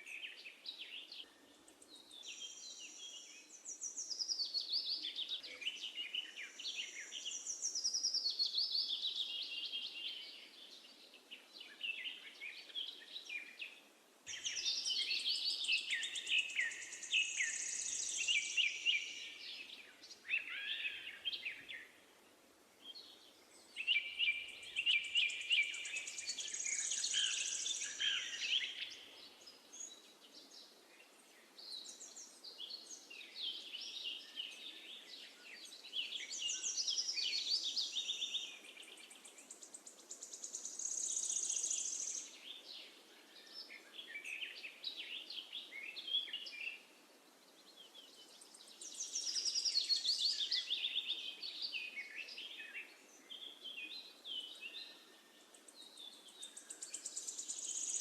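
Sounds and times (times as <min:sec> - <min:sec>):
faint background hiss: 0:00.0 - 0:58.0
songbirds chirping and trilling: 0:00.0 - 0:58.0.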